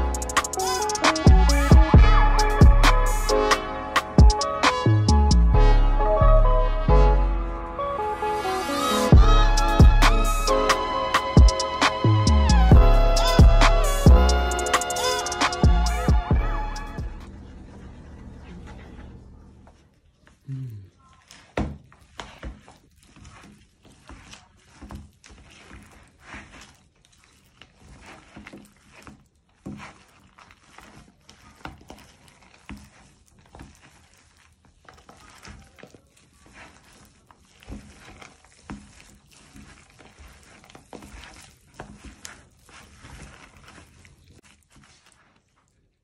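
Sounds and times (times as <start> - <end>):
gloved hand squishing food: 0.0 - 5.4, 9.0 - 46.0.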